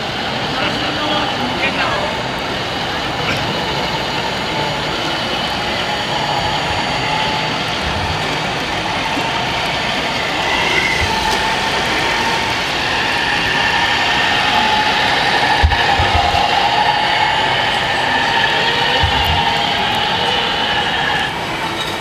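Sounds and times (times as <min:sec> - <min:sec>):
busy hall noise: 0:00.0 - 0:22.0
remote control truck drone: 0:00.0 - 0:22.0.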